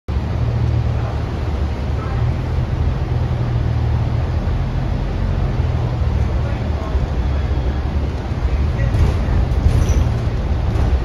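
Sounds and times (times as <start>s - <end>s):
bus engine rumble: 0.1s - 11.0s.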